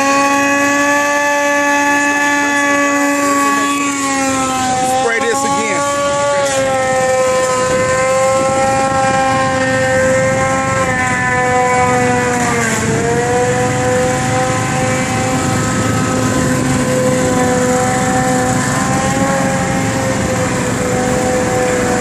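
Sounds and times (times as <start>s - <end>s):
pressure washer engine whining: 0.0s - 22.0s.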